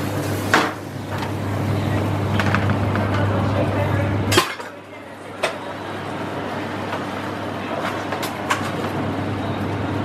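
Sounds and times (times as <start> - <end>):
food hall din: 0.0 - 10.0.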